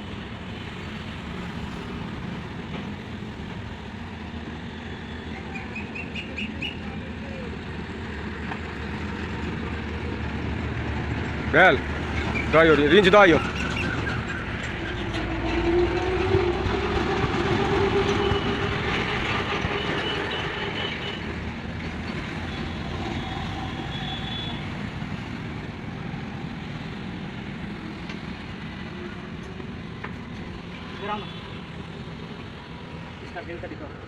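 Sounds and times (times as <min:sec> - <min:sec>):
large vehicle rumbling: 0:05.4 - 0:34.0.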